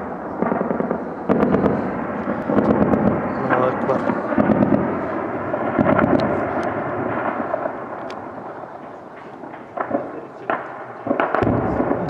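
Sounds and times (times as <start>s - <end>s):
echoing rumble: 0.0s - 12.0s
gunshots: 0.0s - 12.0s.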